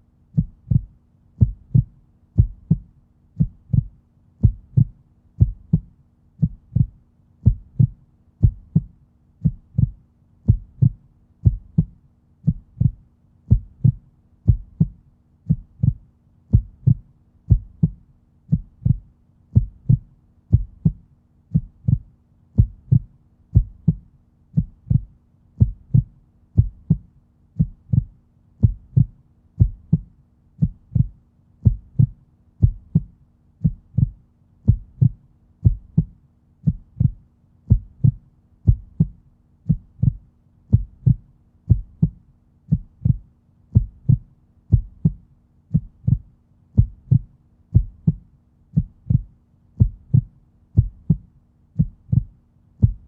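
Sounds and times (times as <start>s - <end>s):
faint steady hum: 0.0s - 53.0s
heartbeat thumps: 0.3s - 53.0s.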